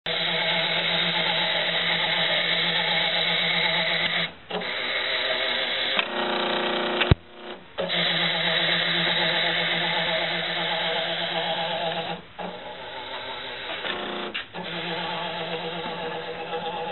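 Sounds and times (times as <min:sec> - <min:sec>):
motors humming: 0:00.1 - 0:16.9.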